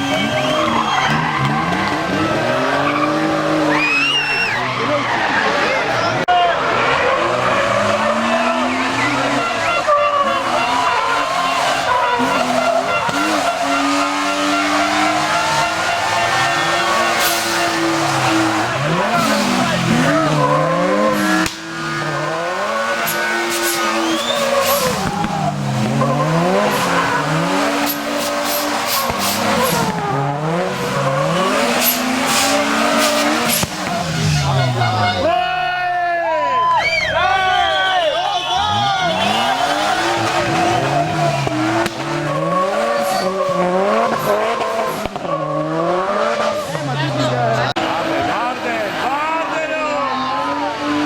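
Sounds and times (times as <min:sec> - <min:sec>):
car engine revving: 0:00.0 - 0:35.4, 0:38.4 - 0:51.0
tyres squealing: 0:00.0 - 0:35.6, 0:36.5 - 0:47.7.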